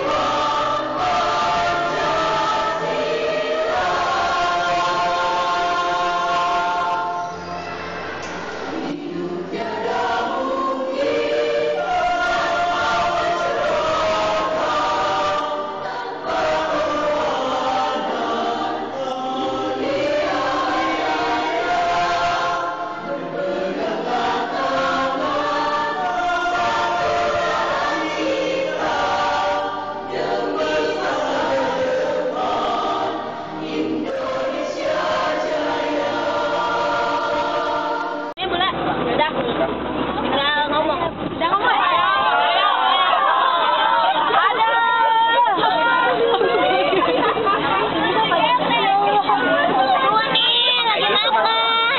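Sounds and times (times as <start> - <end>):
mixed choir singing: 0.0 - 38.4, 41.6 - 51.9.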